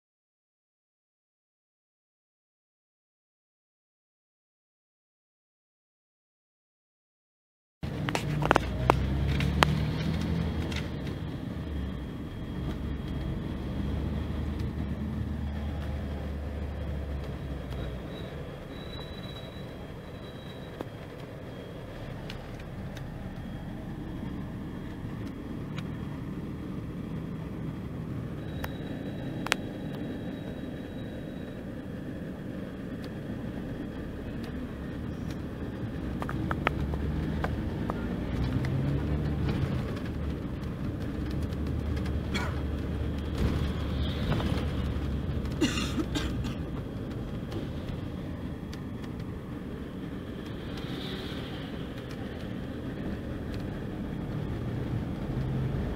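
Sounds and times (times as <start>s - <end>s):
diesel engine droning: 7.8s - 55.9s.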